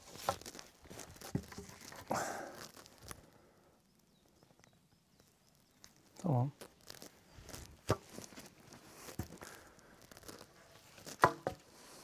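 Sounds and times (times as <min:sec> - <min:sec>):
dry branches rustling and crackling: 0:00.0 - 0:12.0.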